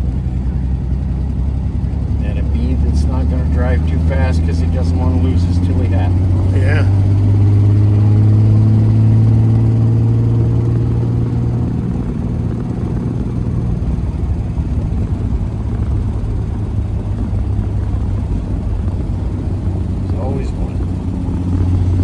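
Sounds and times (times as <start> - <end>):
car engine running inside car: 0.0 - 22.0.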